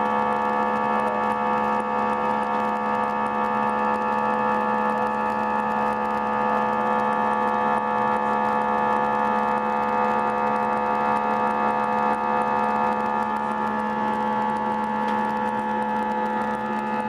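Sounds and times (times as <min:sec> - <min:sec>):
jet engines droning: 0:00.0 - 0:17.0
whining engine tones: 0:00.0 - 0:17.0.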